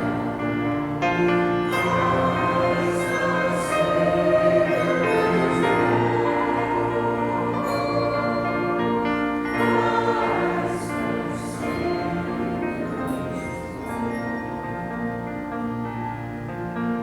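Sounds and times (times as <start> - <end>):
choir singing held chords: 0.0 - 15.3.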